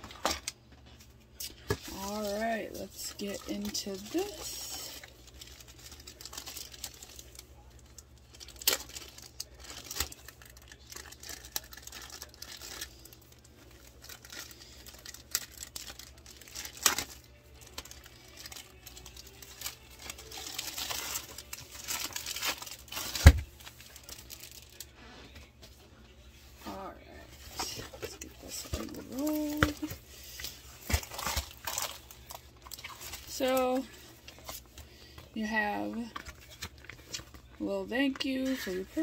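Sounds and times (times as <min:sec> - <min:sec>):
plastic wrap crinkling and tearing: 0:00.0 - 0:25.3, 0:27.4 - 0:39.0.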